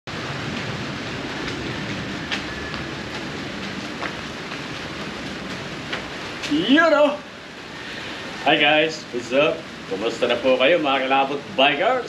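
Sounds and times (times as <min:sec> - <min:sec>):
rain on a metal roof: 0:00.1 - 0:12.0.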